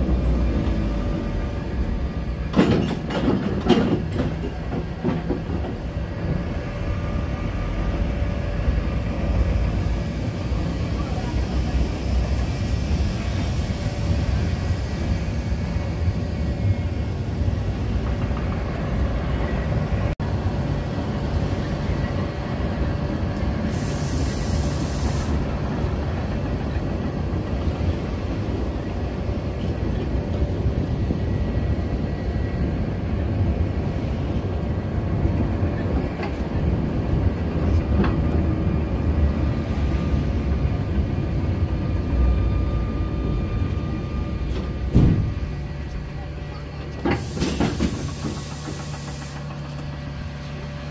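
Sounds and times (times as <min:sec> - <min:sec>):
tram wheels rumbling on rails: 0:00.0 - 0:50.9.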